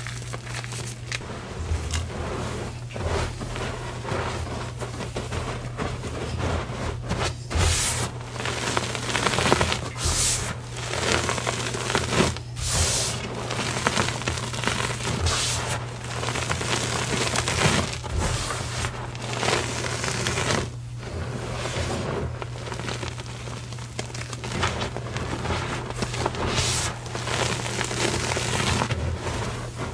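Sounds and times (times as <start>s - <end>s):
hands crushing chalk powder: 0.0s - 29.9s.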